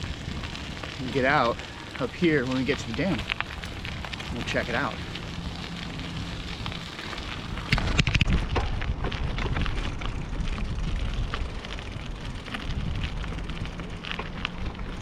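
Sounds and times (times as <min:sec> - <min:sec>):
bicycle crackles and clicks: 0:00.0 - 0:15.0
wind rumbling on microphone: 0:00.0 - 0:15.0.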